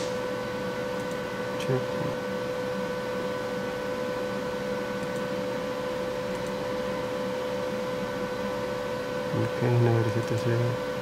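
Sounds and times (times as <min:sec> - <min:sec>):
printer humming with high whine: 0:00.0 - 0:11.0.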